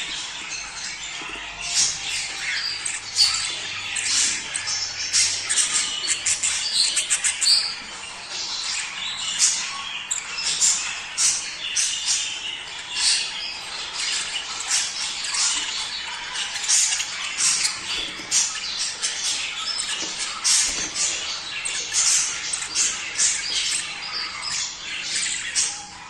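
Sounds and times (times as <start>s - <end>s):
budgerigars chirping and squawking: 0.0s - 26.0s.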